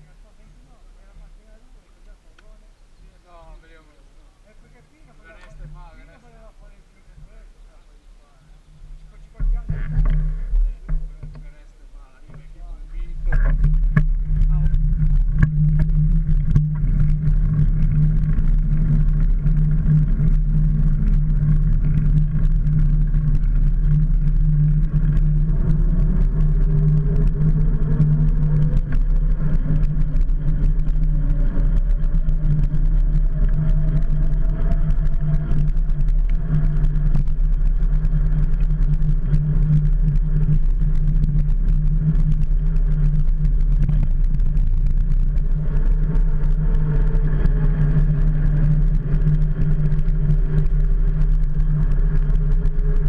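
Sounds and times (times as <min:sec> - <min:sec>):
road rumble: 0:00.0 - 0:53.0.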